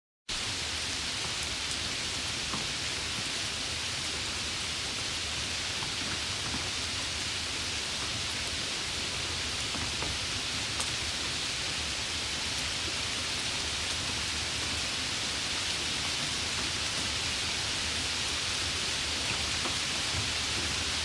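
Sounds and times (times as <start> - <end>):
light rain hiss: 0.3 - 21.0
raindrops pattering: 0.3 - 21.0.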